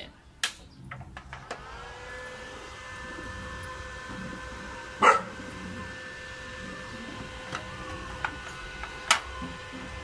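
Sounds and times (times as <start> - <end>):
welding machine humming: 1.1 - 10.0.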